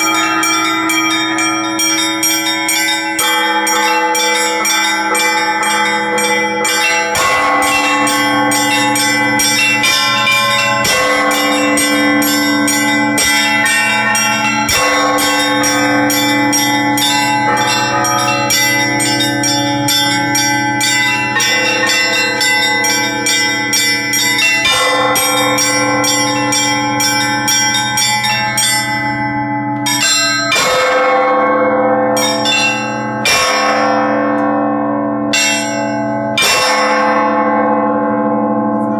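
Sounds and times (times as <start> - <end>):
heavy church bell strikes: 0.0 - 38.9
small church bells ringing fast: 0.0 - 38.9.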